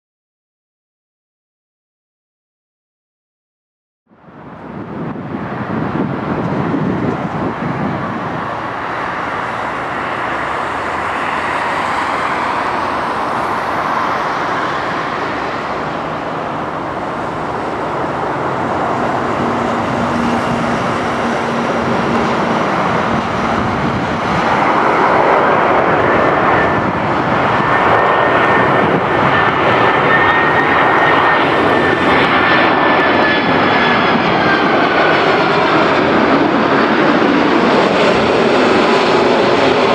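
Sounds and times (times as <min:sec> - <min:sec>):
high engine whine: 0:04.1 - 0:39.9
jet engines rushing: 0:04.2 - 0:39.9.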